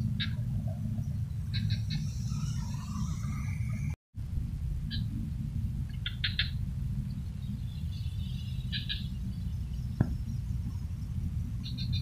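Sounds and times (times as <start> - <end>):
steady low rumble: 0.0 - 12.0
small birds chirping: 0.1 - 3.9, 5.9 - 12.0.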